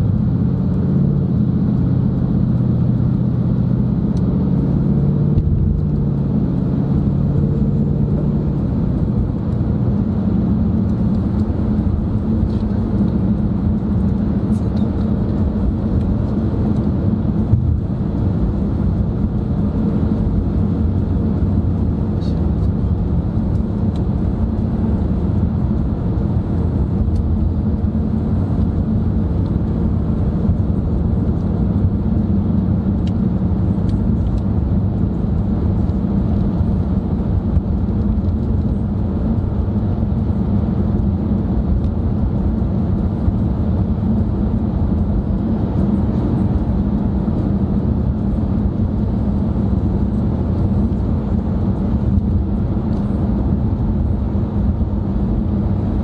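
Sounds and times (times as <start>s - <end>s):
car driving interior drone: 0.0s - 56.0s.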